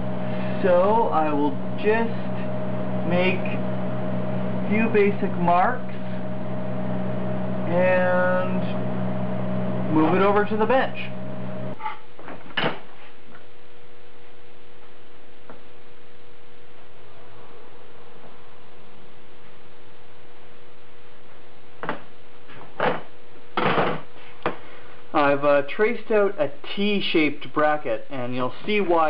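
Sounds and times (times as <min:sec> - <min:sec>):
workshop hum and hiss: 0:00.0 - 0:29.0.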